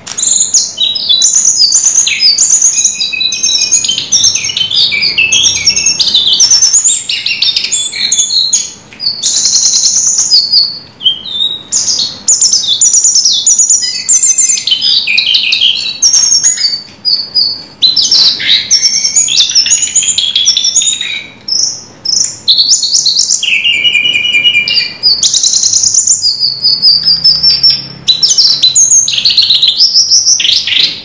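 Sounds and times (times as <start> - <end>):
bird singing whistled trills: 0.0 - 31.0.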